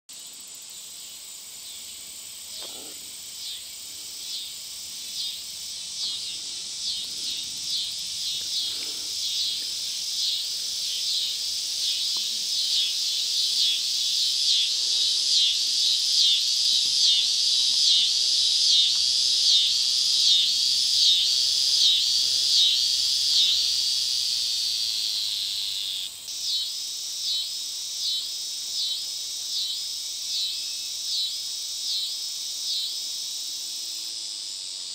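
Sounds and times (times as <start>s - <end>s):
insects buzzing in pulses: 0.1s - 34.9s.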